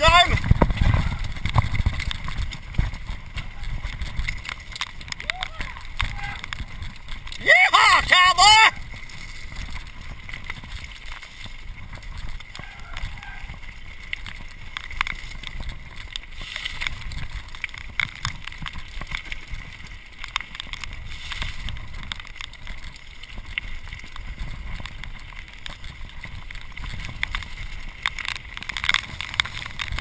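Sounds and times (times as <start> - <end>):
bike rattling over rocks: 0.0 - 30.0
tyres crunching over gravel: 0.0 - 30.0
wind rumble on microphone: 0.0 - 30.0.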